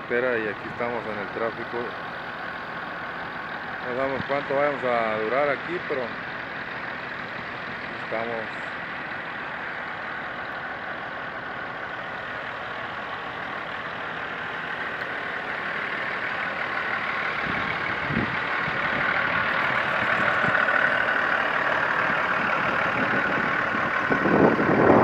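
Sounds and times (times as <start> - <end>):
road noise: 0.0 - 25.0
vehicle engine: 0.0 - 25.0.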